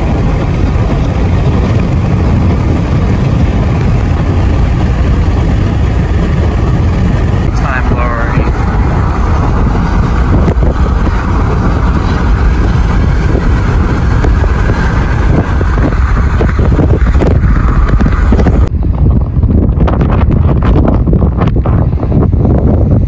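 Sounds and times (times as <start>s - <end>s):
car road and wind rumble: 0.0s - 23.0s.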